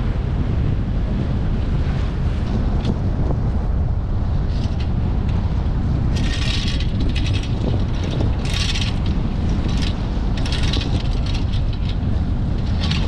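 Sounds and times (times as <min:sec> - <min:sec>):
waves against boat hull: 0:00.0 - 0:13.0
wind buffeting microphone: 0:00.0 - 0:13.0.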